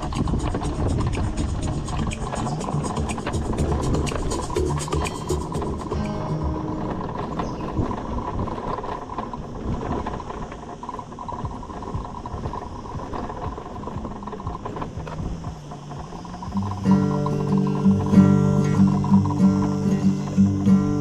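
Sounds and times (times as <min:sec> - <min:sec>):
road noise: 0:00.0 - 0:21.0
steady whine: 0:00.0 - 0:21.0
wind buffeting: 0:00.0 - 0:21.0.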